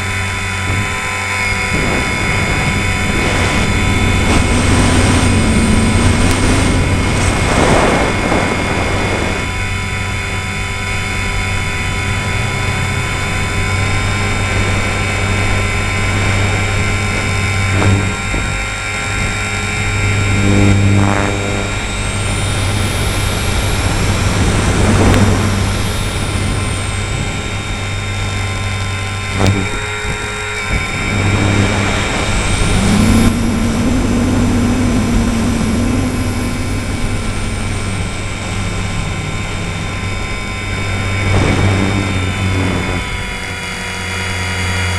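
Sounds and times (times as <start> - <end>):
rc helicopter motor whine: 0.0 - 44.9
rotor hum: 0.0 - 44.9.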